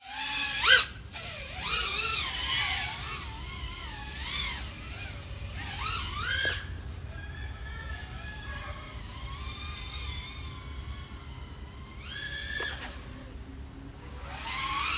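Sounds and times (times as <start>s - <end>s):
quadcopter motors whining: 0.0s - 14.9s.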